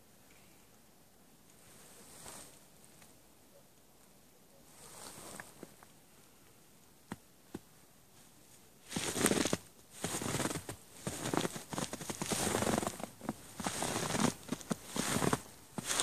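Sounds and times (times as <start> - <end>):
close-up rustling and crackling: 1.5 - 3.2, 3.9 - 16.0.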